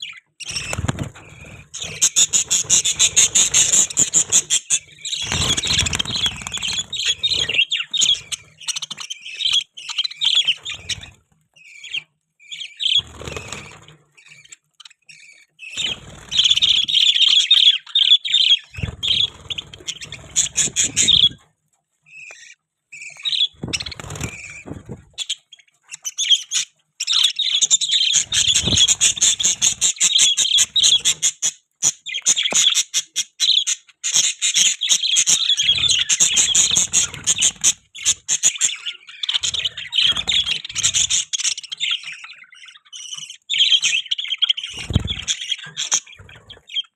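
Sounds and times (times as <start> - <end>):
budgerigars chirping and warbling: 0.0 - 46.9.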